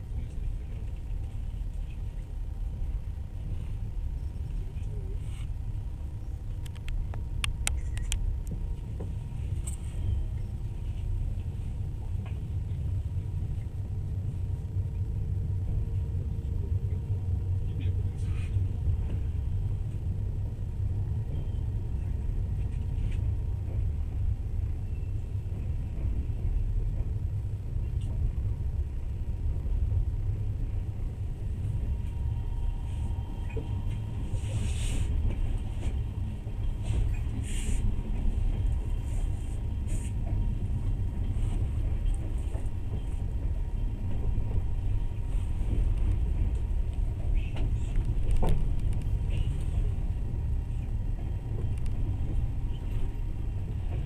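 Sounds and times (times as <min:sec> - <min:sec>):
train rumbling from inside carriage: 0:00.0 - 0:54.0.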